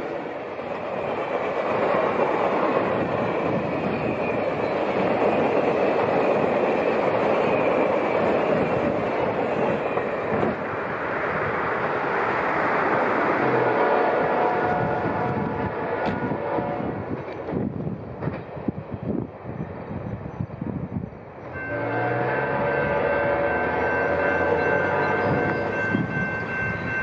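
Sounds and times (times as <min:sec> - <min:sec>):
train wheels rushing on rails: 0:00.0 - 0:27.0.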